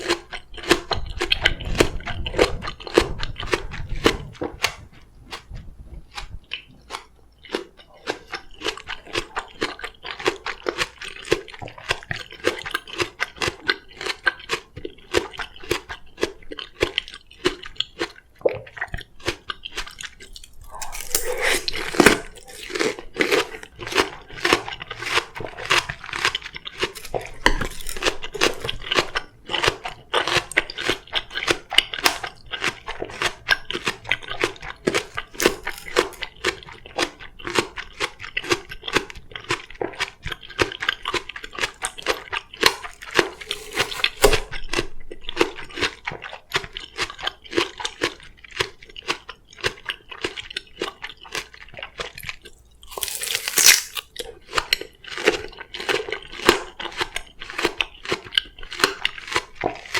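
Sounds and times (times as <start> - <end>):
crunching and chewing melon: 0.0 - 59.9.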